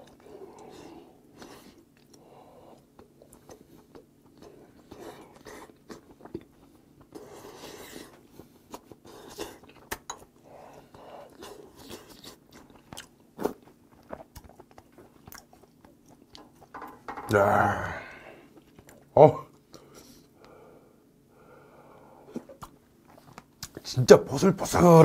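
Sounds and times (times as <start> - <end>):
person chewing: 0.0 - 16.8, 18.5 - 20.3, 22.2 - 23.9.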